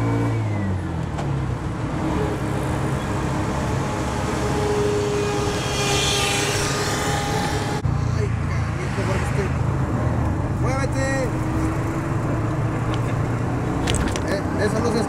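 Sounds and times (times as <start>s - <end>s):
road and traffic noise: 0.0s - 15.0s.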